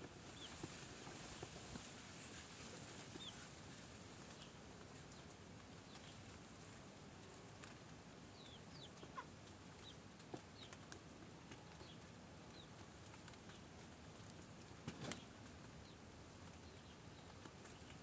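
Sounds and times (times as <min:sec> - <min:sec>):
young chickens peeping: 0:00.0 - 0:18.0.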